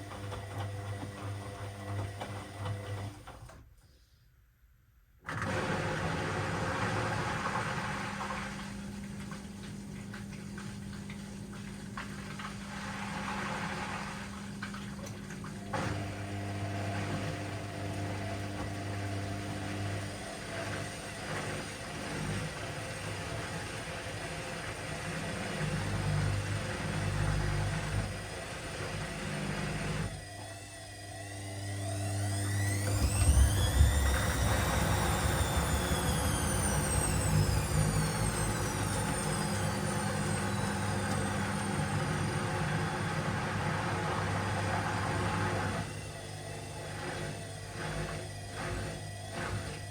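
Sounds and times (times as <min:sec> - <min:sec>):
washing machine running: 0:00.0 - 0:03.7, 0:05.2 - 0:49.9.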